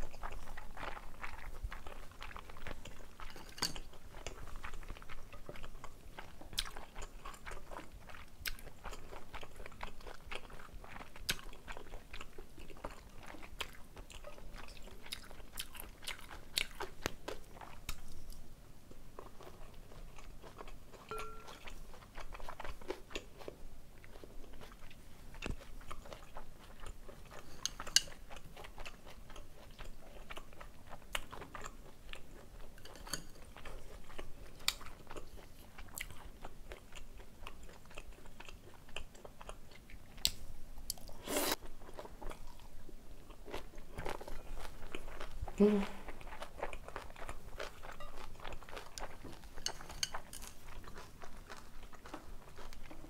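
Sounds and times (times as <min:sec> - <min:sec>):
person chewing noodles: 0:00.0 - 0:18.5, 0:19.1 - 0:53.0.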